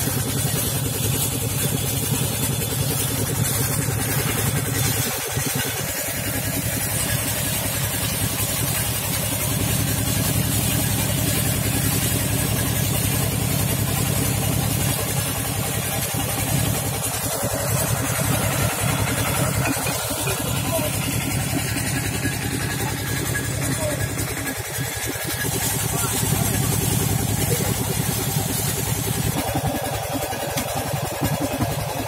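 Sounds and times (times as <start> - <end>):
small engine running: 0.0 - 32.0
water gushing and splashing: 0.0 - 32.0.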